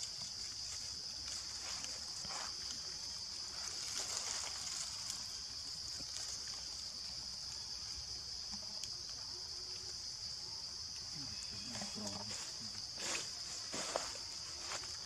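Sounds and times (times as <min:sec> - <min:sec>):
rustles: 0:00.0 - 0:10.0, 0:11.0 - 0:15.0
insects droning: 0:00.0 - 0:15.0.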